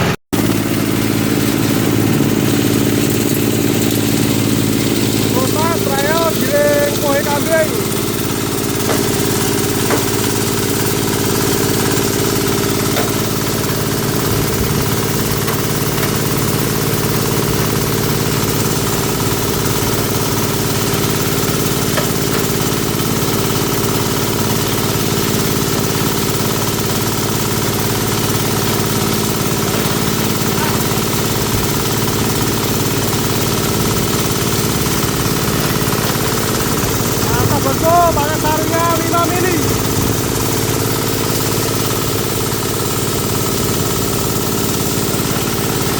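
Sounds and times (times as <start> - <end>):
chopper-grinder engine droning: 0.0 - 45.9.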